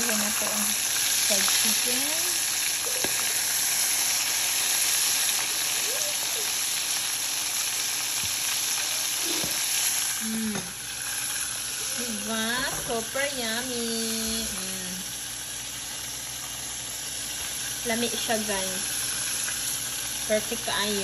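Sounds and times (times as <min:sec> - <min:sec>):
chicken deep-frying in oil: 0:00.0 - 0:21.0.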